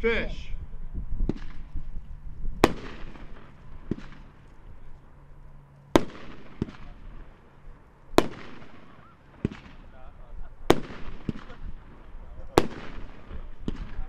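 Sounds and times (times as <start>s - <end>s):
fireworks reports with crackling hiss: 2.6s - 14.0s.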